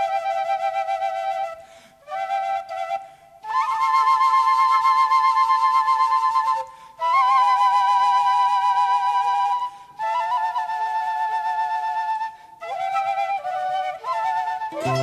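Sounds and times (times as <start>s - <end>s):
slow flute melody: 0.0s - 15.0s.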